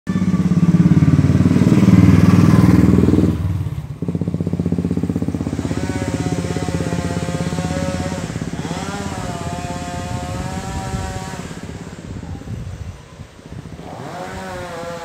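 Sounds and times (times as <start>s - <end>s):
small vehicle engine running: 0.1s - 15.0s.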